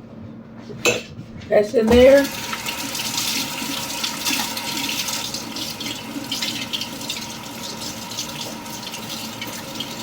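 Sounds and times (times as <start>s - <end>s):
water running from tap: 1.9s - 10.0s.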